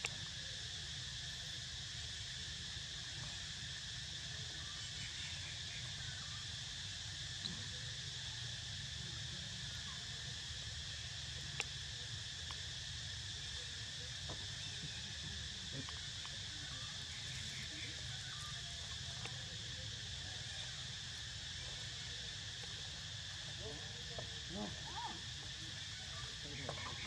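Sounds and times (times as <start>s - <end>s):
insect chorus buzzing: 0.0s - 27.0s.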